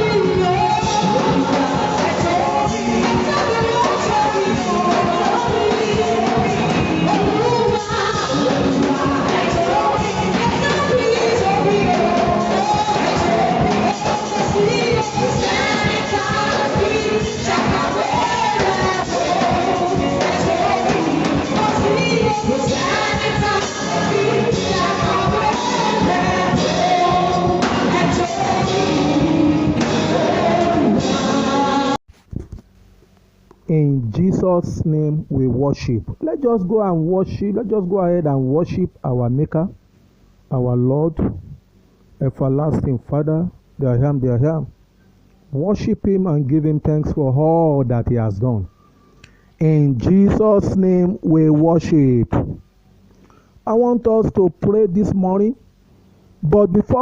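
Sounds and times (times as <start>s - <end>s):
worship music with singing: 0.0s - 32.0s, 33.5s - 57.0s.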